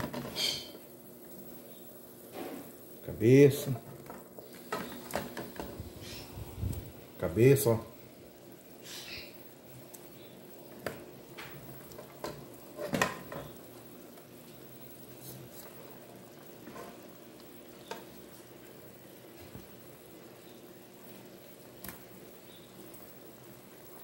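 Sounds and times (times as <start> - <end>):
sauce bubbling: 3.8 - 7.2, 7.9 - 24.0.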